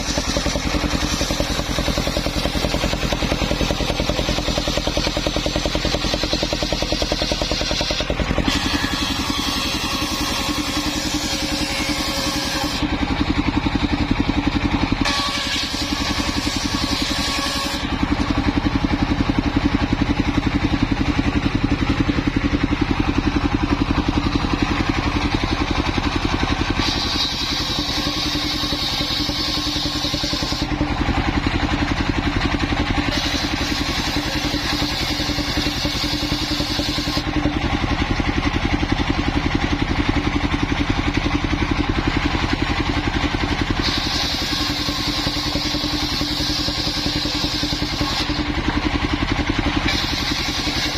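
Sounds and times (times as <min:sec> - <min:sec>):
circular saw running: 0:00.0 - 0:50.9
saw blade whining through wood: 0:00.0 - 0:50.9.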